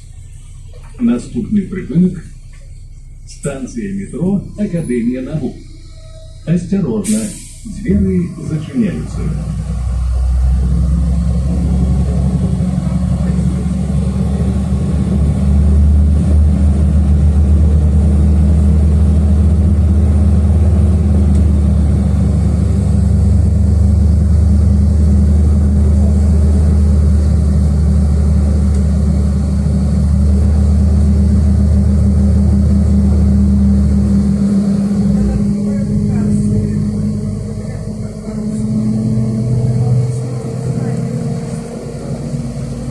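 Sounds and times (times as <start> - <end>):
bus engine drone: 0.0 - 42.9.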